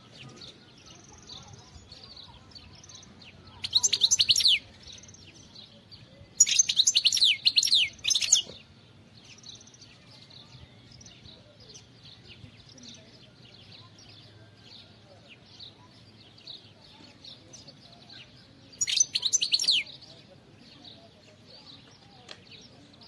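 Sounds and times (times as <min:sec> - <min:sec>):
goldfinch singing: 0:00.0 - 0:23.0
soft bird twittering: 0:00.0 - 0:23.0.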